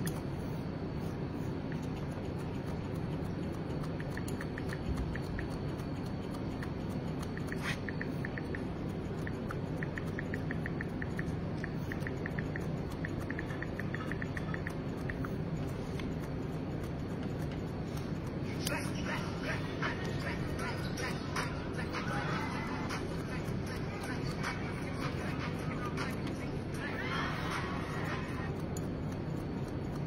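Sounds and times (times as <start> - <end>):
low room hum: 0.0 - 30.0
scissors snipping hair: 0.0 - 30.0.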